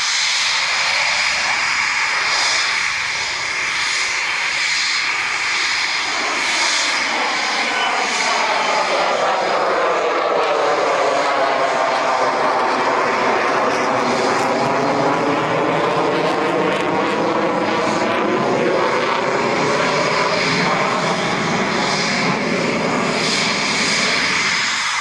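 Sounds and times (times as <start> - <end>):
jet engines running: 0.0 - 25.0.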